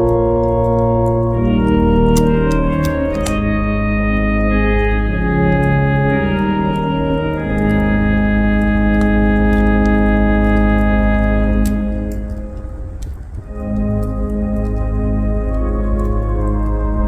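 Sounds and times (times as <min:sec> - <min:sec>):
pipe organ playing a hymn: 0:00.0 - 0:17.0
sharp clicks: 0:00.0 - 0:17.0.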